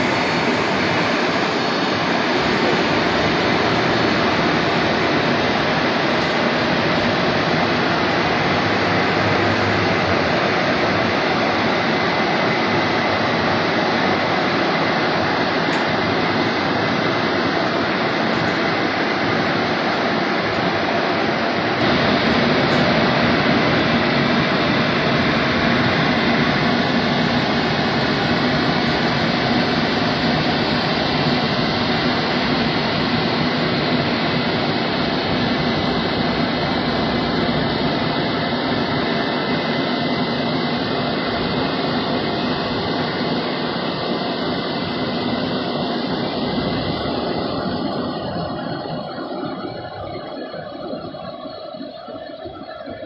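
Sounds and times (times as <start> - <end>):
drying blowers rushing air: 0.0 - 53.0.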